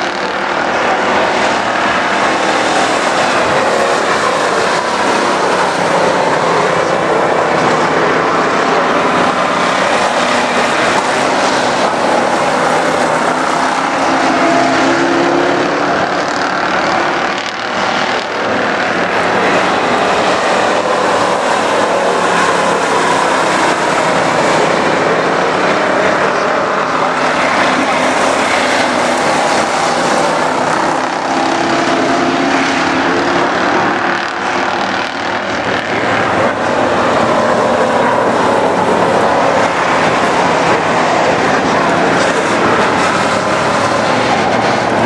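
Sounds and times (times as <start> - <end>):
race car engines roaring: 0.0 - 45.0.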